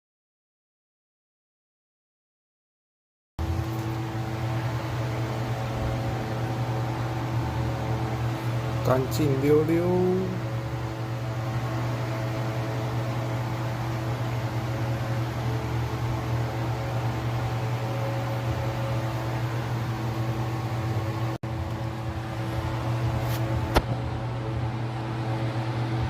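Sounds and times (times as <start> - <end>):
machine hum with hiss: 3.4 - 26.0.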